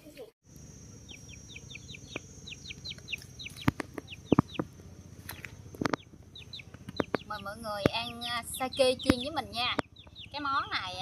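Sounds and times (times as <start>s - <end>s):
chickens chirping: 0.5s - 11.0s.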